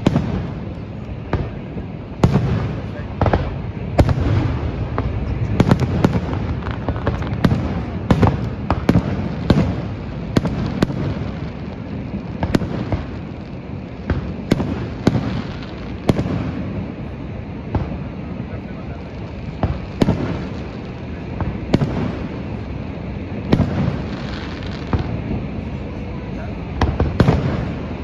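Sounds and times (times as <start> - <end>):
continuous low rumble: 0.0 - 28.0
fireworks bursting with sharp bangs: 0.0 - 28.0.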